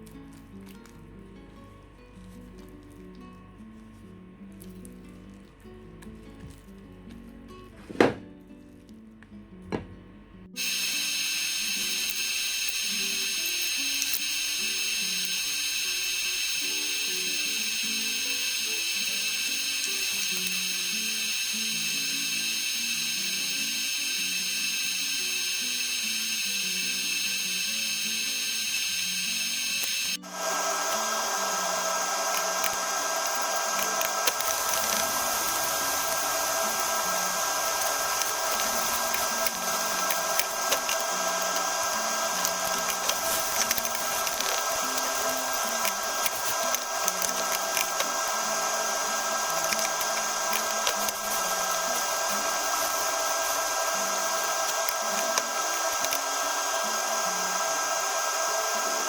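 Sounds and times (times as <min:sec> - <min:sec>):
small electric motor whirring: 0:10.6 - 0:59.0.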